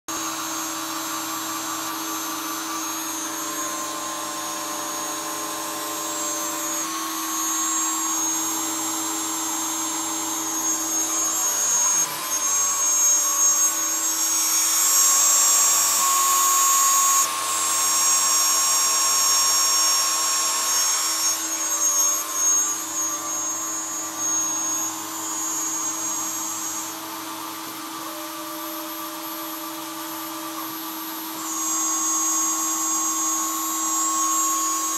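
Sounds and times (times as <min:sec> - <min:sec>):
router motor whine: 0:00.1 - 0:34.9
stepping axis motor tones: 0:00.1 - 0:34.9.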